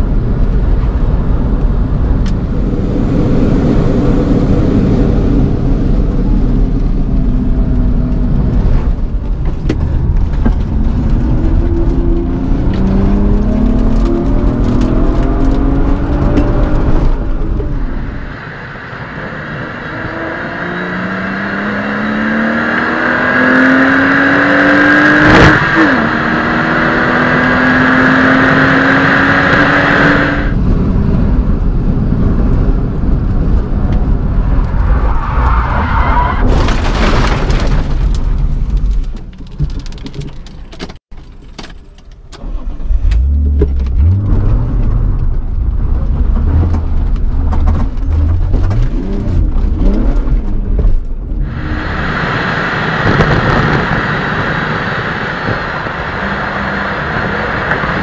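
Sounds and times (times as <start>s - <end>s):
tyre and road rumble: 0.0s - 58.0s
car engine revving: 1.1s - 36.0s, 42.4s - 58.0s.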